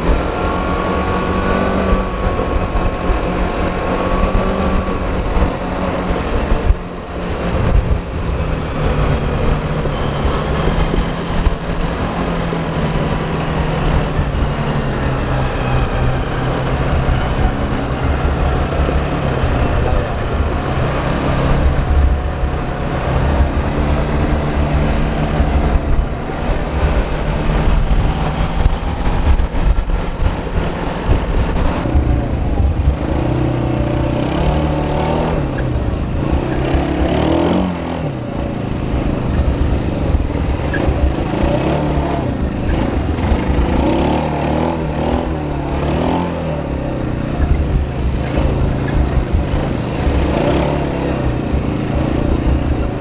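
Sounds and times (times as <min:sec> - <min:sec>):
quad bike engine running: 0:00.0 - 0:53.0
wind rumble on microphone: 0:00.0 - 0:53.0.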